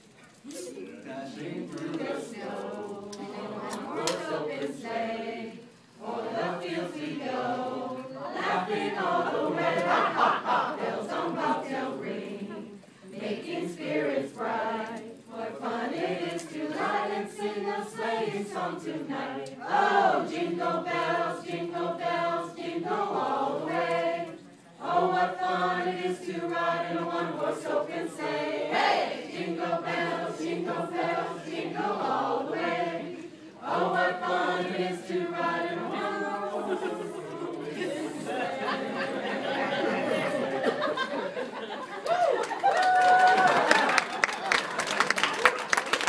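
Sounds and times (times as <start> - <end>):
carollers singing: 1.2 - 41.0.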